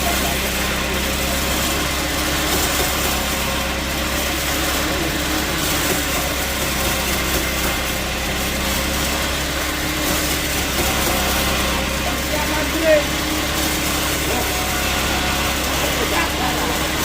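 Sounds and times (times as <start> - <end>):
sawmill machinery humming: 0.0 - 17.0.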